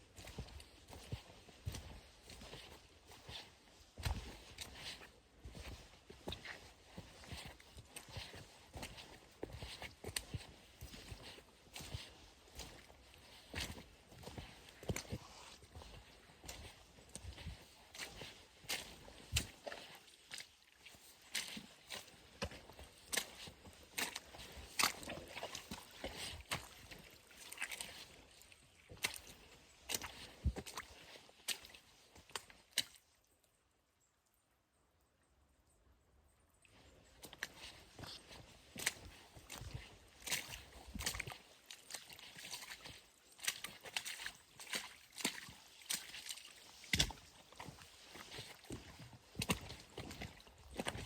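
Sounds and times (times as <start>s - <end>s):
footsteps crunching on a trail: 0.0s - 33.0s, 36.8s - 51.0s.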